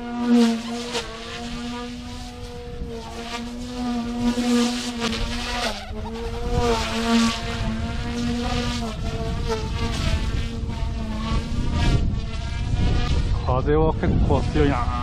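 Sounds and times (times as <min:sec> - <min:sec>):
rc helicopter rotor whine: 0:00.0 - 0:15.0
wind on microphone: 0:00.0 - 0:15.0.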